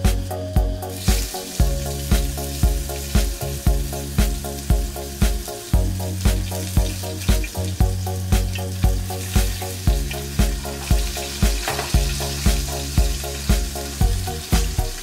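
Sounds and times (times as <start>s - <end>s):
background music with beat: 0.0s - 15.0s
tofu sizzling in oil: 0.1s - 15.0s.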